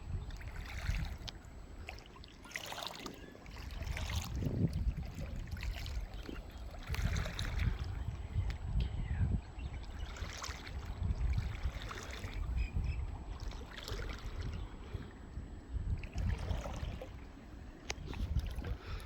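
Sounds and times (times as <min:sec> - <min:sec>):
wind buffeting microphone: 0:00.0 - 0:02.2, 0:03.5 - 0:19.0.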